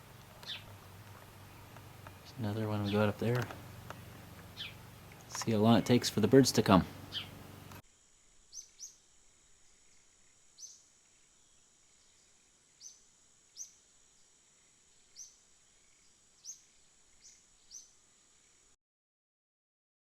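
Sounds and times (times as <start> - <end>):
small bird chirping: 0.0 - 7.8, 8.4 - 18.8.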